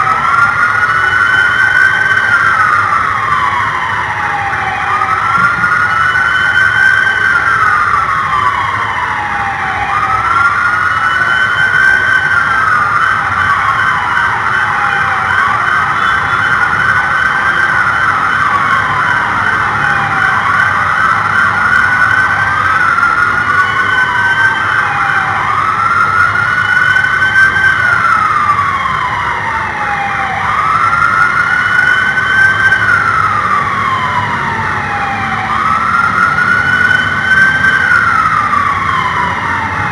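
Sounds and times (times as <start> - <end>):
police siren wailing: 0.0 - 39.9
steady high siren tone: 0.0 - 39.9.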